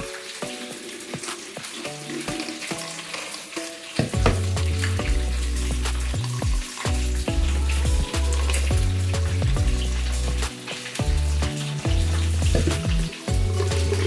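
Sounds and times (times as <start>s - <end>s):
background music: 0.0s - 14.0s
chicken frying in oil: 0.0s - 14.0s.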